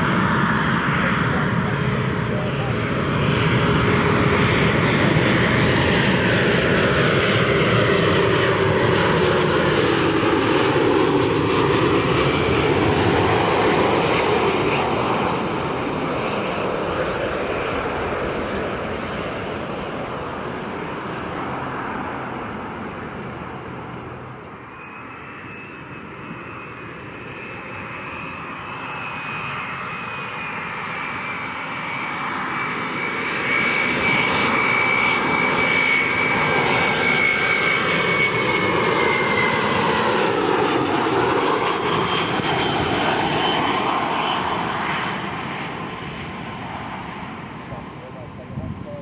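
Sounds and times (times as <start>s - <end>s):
airliner engines passing: 0.0s - 49.0s.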